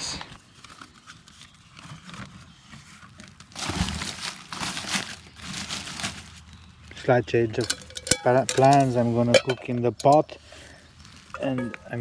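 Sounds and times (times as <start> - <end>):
crinkling rustle: 0.3 - 12.0
cooking gear clicks and rustles: 0.6 - 12.0.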